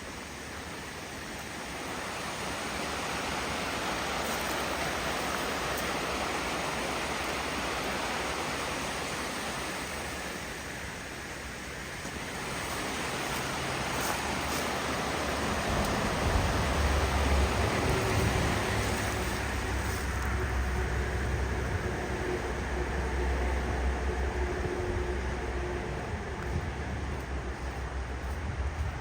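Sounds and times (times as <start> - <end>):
falling water rushing: 0.0 - 24.5.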